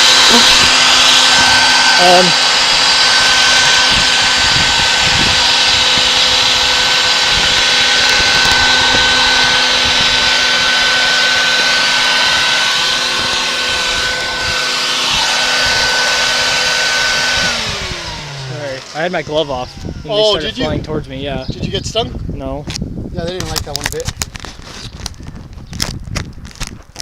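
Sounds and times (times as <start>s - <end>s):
vacuum motor whine: 0.0s - 22.0s.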